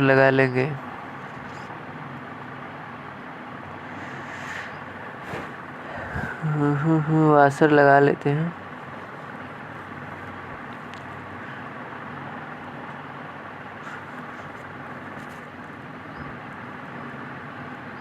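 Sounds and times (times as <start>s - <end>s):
background hiss and hum: 0.0s - 18.0s.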